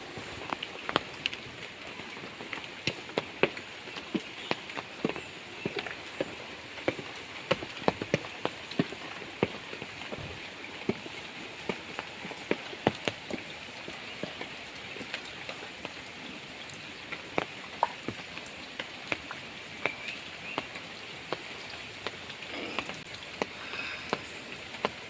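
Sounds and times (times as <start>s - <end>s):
heavy raindrops tapping: 0.0s - 25.0s
rain hiss: 0.0s - 25.0s.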